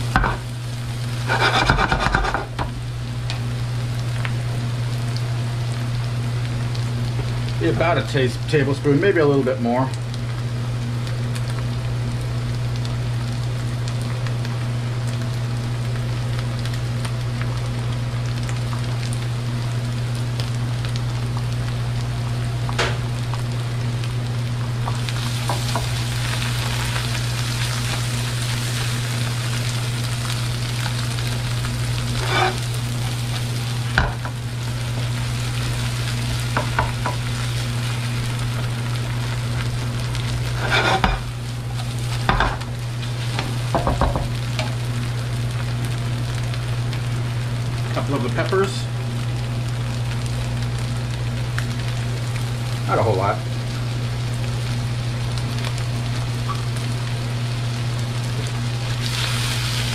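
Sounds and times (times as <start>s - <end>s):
food sizzling in frying pan: 0.0s - 59.9s
steady low hum: 0.0s - 59.9s.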